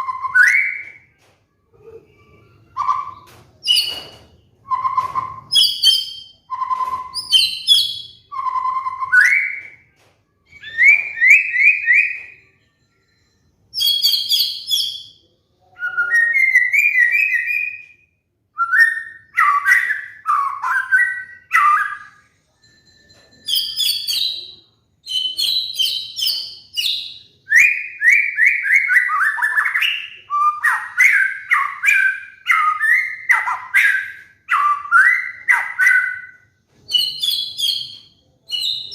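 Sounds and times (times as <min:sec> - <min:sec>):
bird singing whistles and trills: 0:00.0 - 0:01.0, 0:02.7 - 0:09.8, 0:10.5 - 0:12.4, 0:13.7 - 0:22.2, 0:23.5 - 0:38.9.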